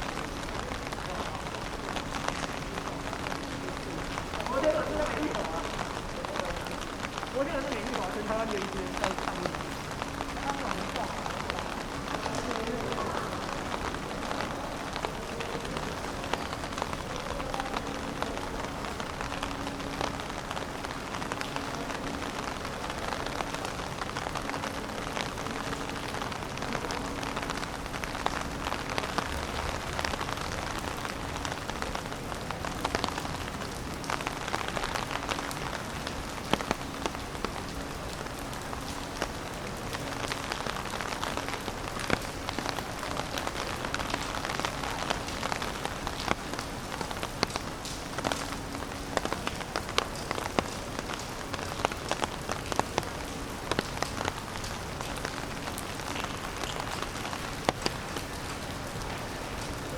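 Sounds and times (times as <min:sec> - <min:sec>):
rain drops ticking: 0:00.0 - 0:59.9.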